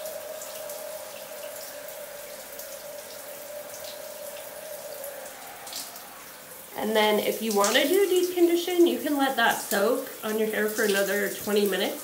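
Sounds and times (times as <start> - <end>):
faint drips and splashes: 0.0 - 12.0
shower water hissing: 0.0 - 12.0.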